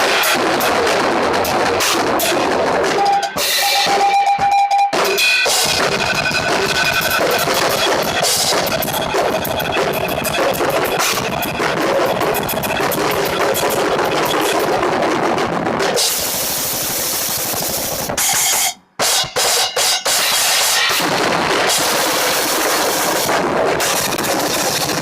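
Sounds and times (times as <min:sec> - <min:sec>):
fast metal drumming: 0:00.0 - 0:25.0.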